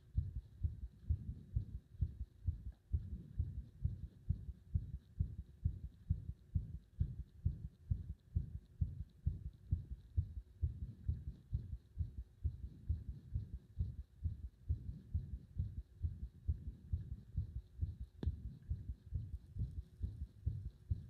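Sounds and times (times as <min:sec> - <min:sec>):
heartbeat thumps: 0:00.0 - 0:21.0.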